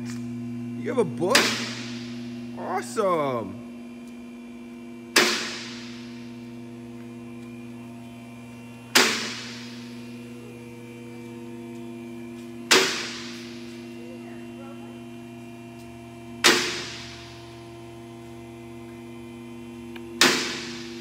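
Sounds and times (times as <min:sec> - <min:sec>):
lift motor humming: 0:00.0 - 0:21.0.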